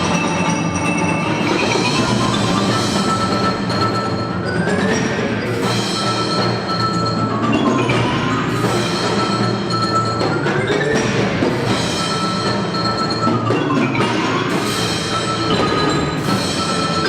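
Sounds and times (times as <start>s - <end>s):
pitched mallet instruments ringing: 0.0s - 17.0s
struck percussion: 0.0s - 17.0s.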